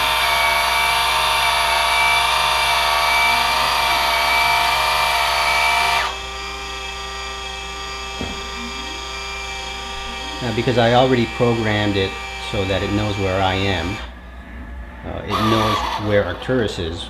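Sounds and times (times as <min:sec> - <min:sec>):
motors and gears whirring: 0:00.0 - 0:14.2, 0:15.1 - 0:16.9.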